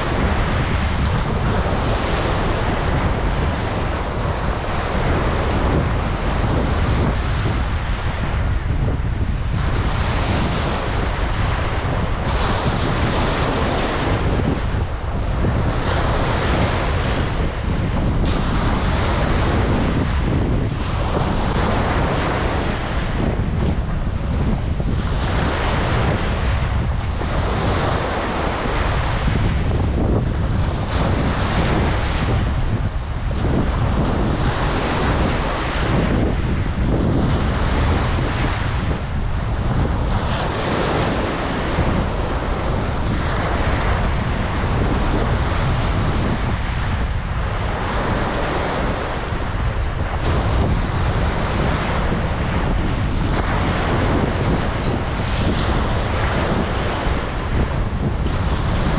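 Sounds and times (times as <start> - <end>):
ocean waves breaking on beach: 0.0 - 58.9
wind rumble on microphone: 0.0 - 58.9.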